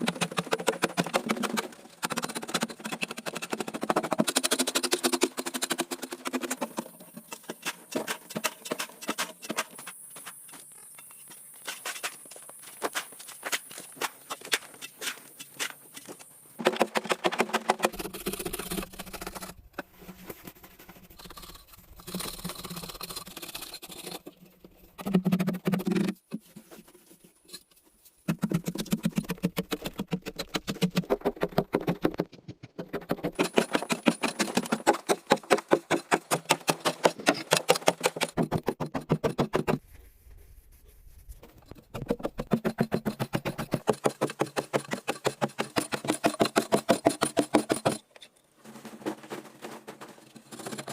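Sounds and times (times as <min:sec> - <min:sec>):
rapid scraping and knocking strokes: 0:00.0 - 0:10.4, 0:11.6 - 0:50.9.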